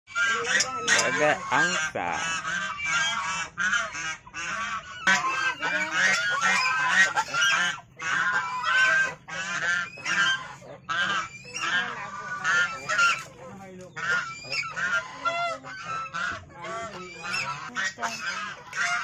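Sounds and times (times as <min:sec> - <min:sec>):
geese honking: 0:00.1 - 0:19.0.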